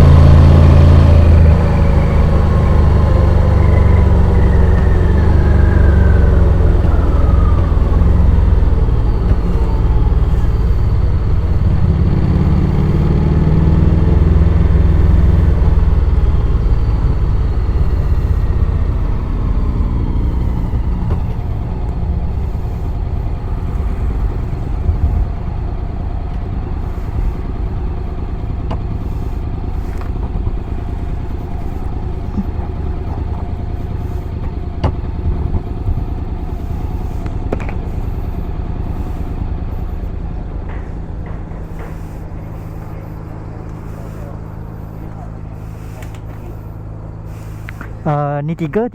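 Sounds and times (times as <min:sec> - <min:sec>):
motorcycle engine while riding: 0:00.0 - 0:48.2.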